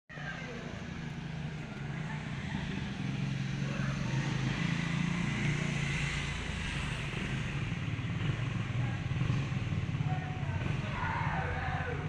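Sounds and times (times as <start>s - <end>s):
low engine rumble: 0.1s - 12.0s.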